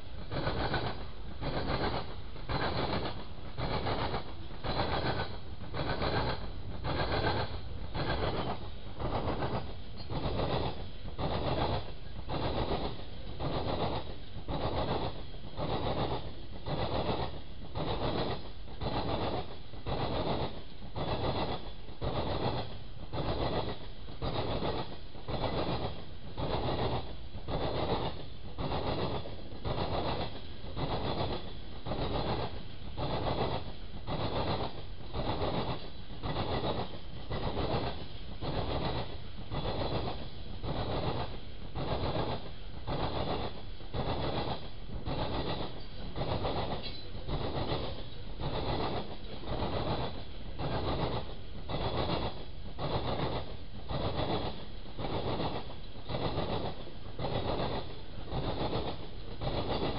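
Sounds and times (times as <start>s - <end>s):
low train rumble: 0.0s - 59.9s
train wheels clacking over rail joints: 0.0s - 59.9s.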